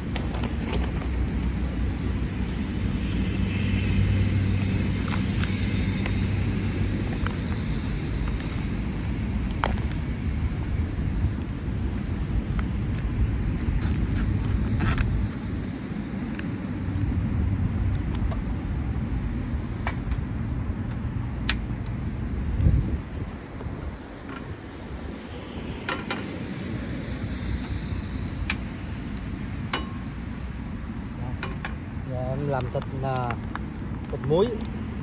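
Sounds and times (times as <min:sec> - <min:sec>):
low rumble of distant engines: 0:00.0 - 0:35.0.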